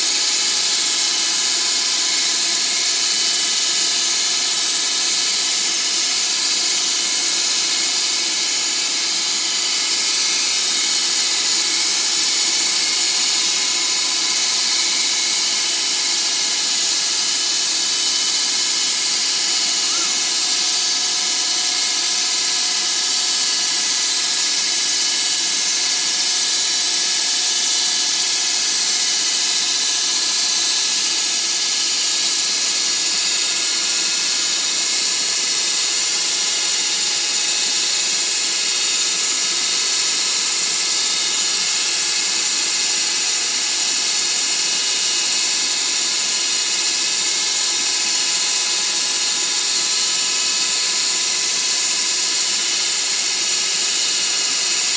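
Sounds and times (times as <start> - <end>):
lathe cutting hiss: 0.0 - 54.9.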